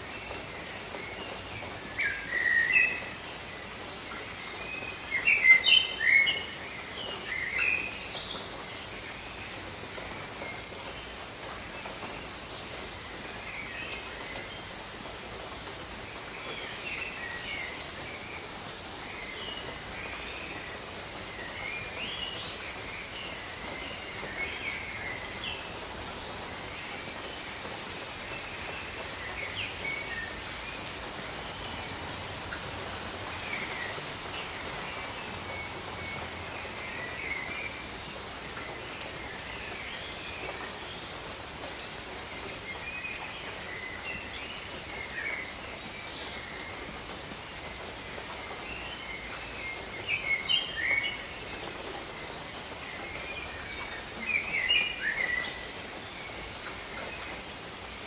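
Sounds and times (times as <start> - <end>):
light rain on leaves: 0.0 - 58.0.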